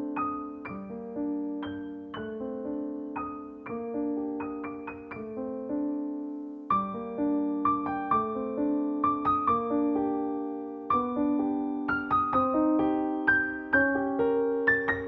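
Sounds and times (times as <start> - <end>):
gentle piano arpeggios: 0.0 - 15.0.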